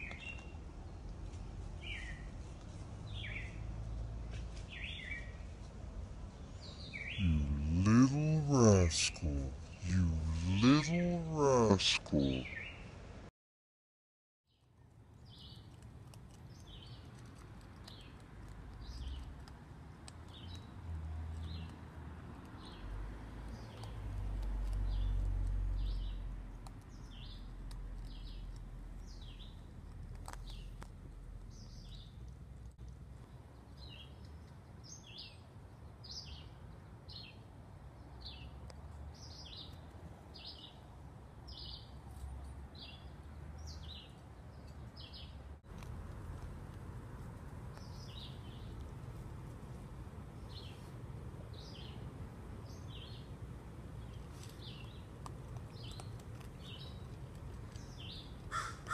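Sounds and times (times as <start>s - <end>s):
songbird chirping: 0.0s - 13.1s, 14.5s - 58.9s.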